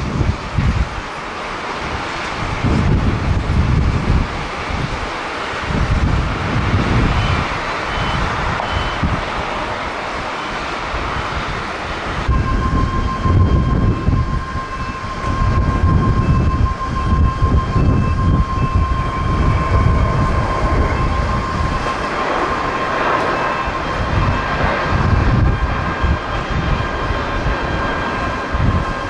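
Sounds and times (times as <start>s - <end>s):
jet engine high whine: 0.0s - 29.0s
jet engine noise: 0.0s - 29.0s
wind rumble on microphone: 0.0s - 29.0s.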